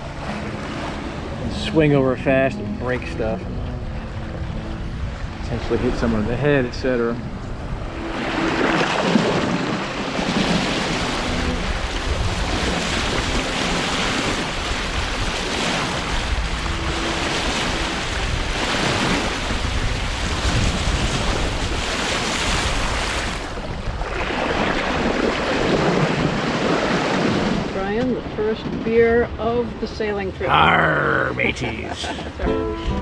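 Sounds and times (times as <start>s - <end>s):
water rushing along hull: 0.0s - 33.0s
wind buffeting microphone: 2.6s - 30.4s.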